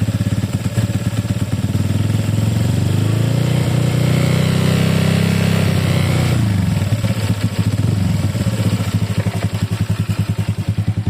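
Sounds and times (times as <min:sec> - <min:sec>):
scooter engine revving and idling: 0:00.0 - 0:11.0.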